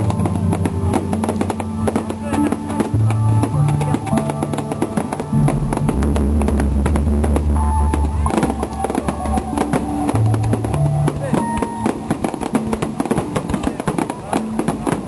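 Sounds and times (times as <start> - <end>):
music with deep bass line: 0.0 - 13.0
fireworks cracks and bangs: 0.0 - 15.0.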